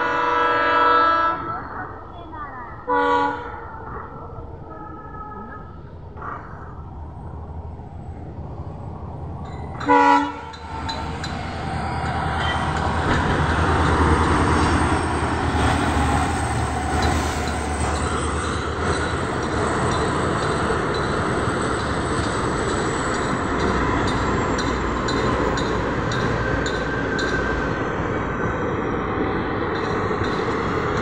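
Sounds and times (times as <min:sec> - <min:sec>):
rumble of wheels on rails: 0:00.0 - 0:31.0
clickety-clack over rail joints: 0:06.0 - 0:31.0.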